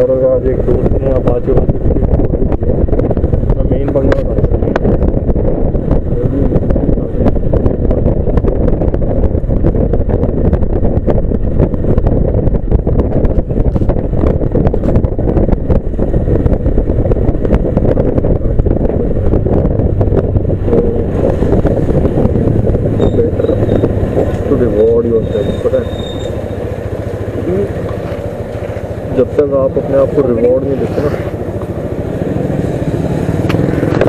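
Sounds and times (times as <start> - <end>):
motorcycle running: 0.0 - 34.0
road noise: 0.0 - 34.0
wind buffeting microphone: 0.0 - 34.0.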